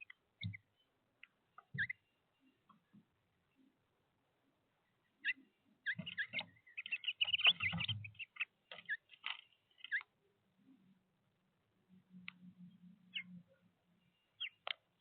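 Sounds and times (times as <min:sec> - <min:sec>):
small birds chirping: 0:00.0 - 0:11.0, 0:12.0 - 0:15.0.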